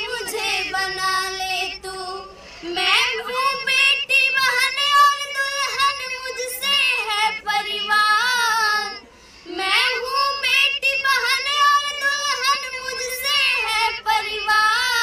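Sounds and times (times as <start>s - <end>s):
high voice singing: 0.0s - 15.0s.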